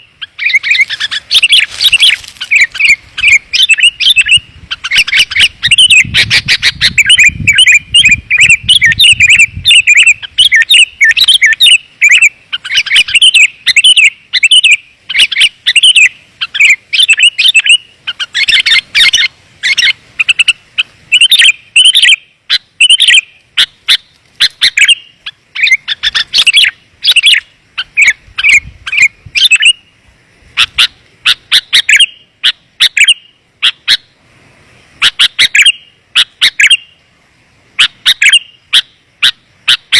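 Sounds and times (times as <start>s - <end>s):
bird chirping: 0.0s - 30.0s, 30.6s - 34.1s, 35.0s - 37.0s, 37.8s - 39.9s.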